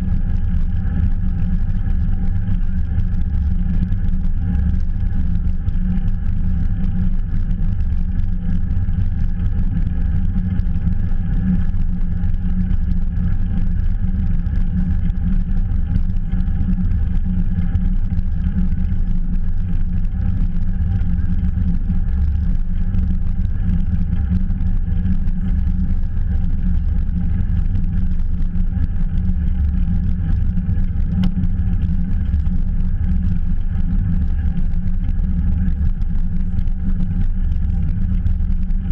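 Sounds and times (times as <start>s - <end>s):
bicycle tyre and road noise: 0.0s - 38.9s
wind rumble on microphone: 0.0s - 38.9s.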